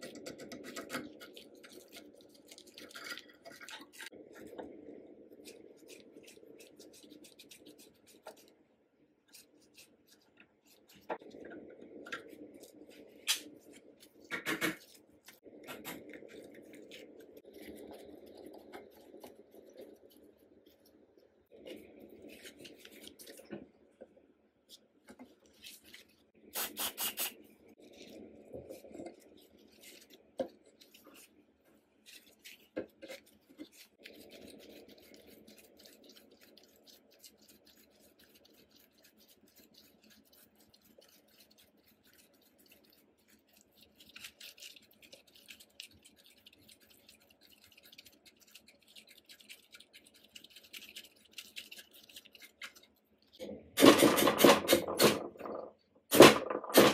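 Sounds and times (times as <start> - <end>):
scratchy rubbing: 0.0 - 8.6, 9.3 - 23.6, 25.3 - 53.4.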